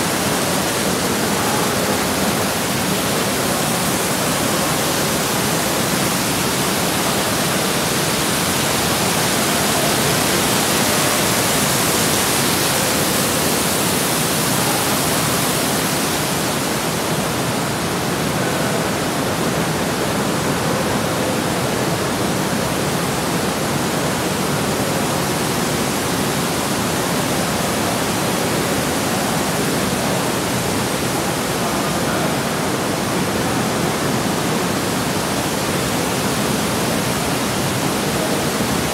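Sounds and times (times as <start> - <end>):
jets churning water: 0.0 - 38.9.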